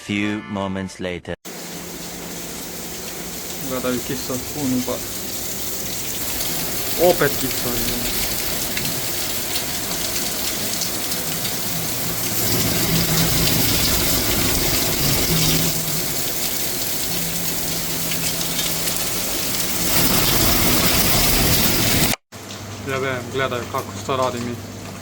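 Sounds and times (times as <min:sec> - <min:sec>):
heavy rain: 0:01.5 - 0:22.5.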